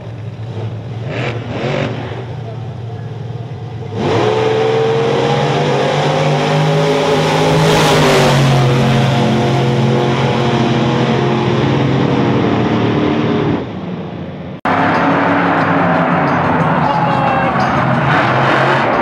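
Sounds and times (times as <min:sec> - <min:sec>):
monster truck engines at full throttle: 0:00.0 - 0:19.0.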